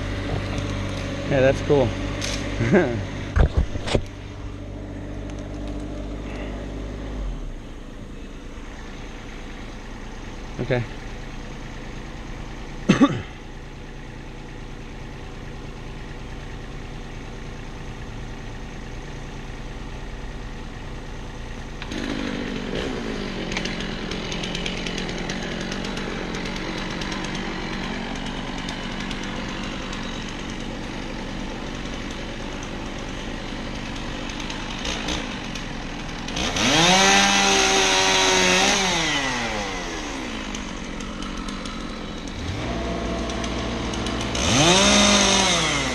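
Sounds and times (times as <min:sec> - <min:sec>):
chainsaw engine running: 0:00.0 - 0:45.9.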